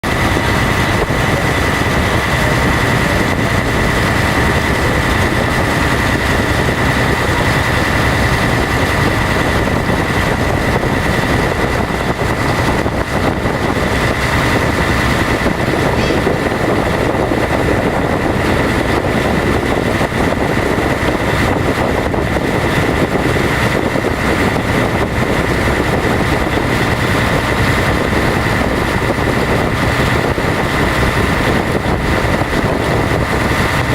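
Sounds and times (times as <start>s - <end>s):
boat engine running: 0.0s - 33.9s.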